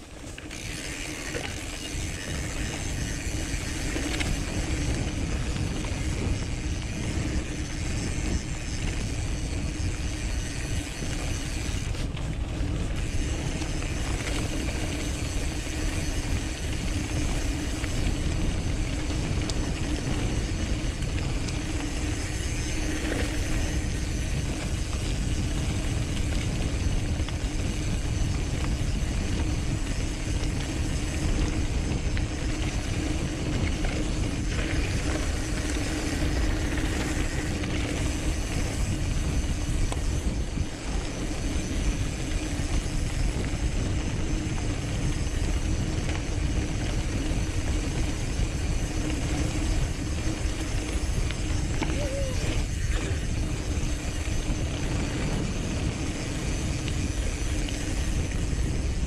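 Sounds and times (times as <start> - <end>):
bike rattling over rough trail: 0.0 - 59.0.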